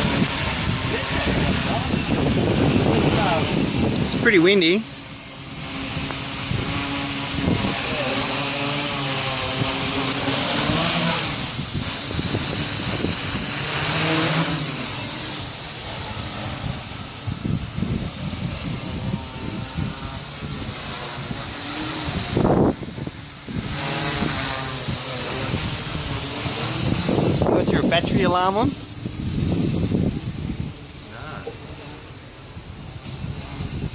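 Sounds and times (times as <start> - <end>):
drone propellers whirring: 0.0 - 33.9
steady high whine: 0.0 - 33.9
wind buffeting microphone: 0.0 - 33.9.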